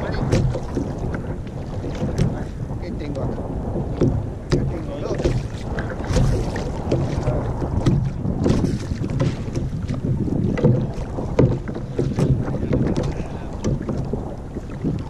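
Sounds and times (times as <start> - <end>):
short splashes and knocks: 0.0 - 15.0
waves lapping against kayak hull: 0.0 - 15.0
wind buffeting microphone: 0.0 - 15.0.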